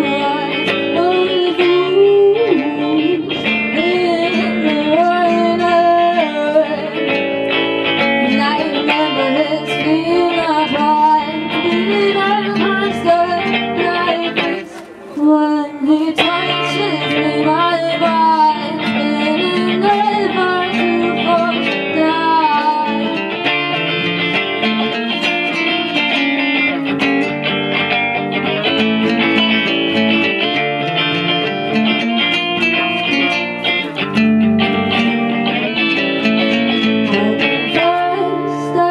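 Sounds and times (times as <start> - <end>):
live guitar band music: 0.0 - 38.9.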